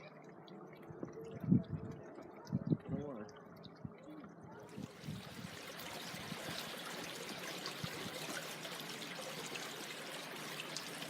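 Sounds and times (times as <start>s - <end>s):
stream water trickling: 0.0s - 11.0s.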